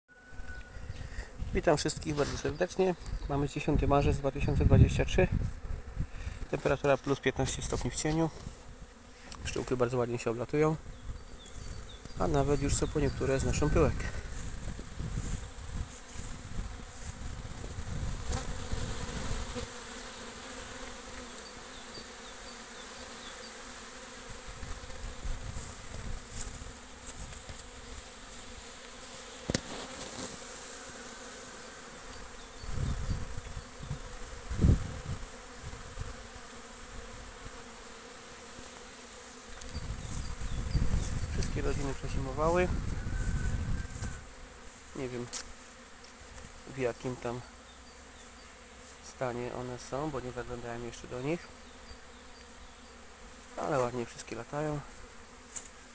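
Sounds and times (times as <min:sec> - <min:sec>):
bees buzzing: 0:00.1 - 0:55.9.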